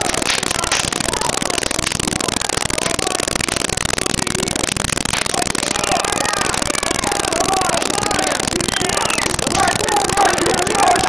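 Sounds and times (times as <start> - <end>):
fire roaring and crackling: 0.0 - 11.0.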